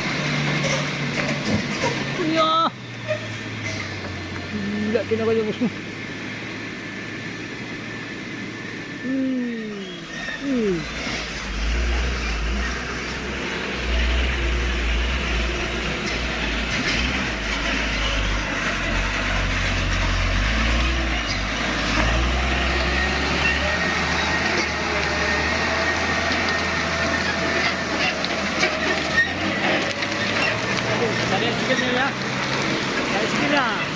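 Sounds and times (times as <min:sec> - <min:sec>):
diesel truck engines rumbling: 0:00.0 - 0:33.9.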